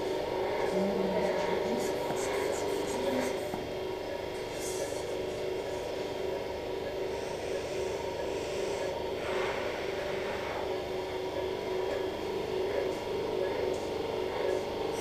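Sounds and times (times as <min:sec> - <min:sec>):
electric hum of equipment: 0:00.0 - 0:15.0.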